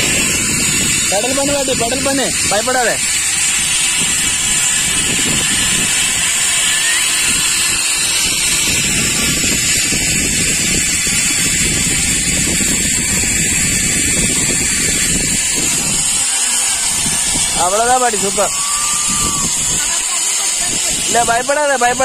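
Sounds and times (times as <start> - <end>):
pulley wheels rolling on cable: 0.0 - 22.0
wind on microphone: 0.0 - 22.0.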